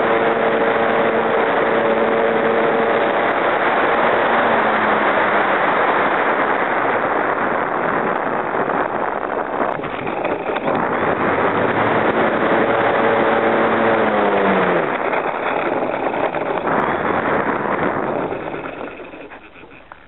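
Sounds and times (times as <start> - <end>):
model plane motor hum: 0.0 - 20.0
wind rushing over camera: 0.0 - 20.0.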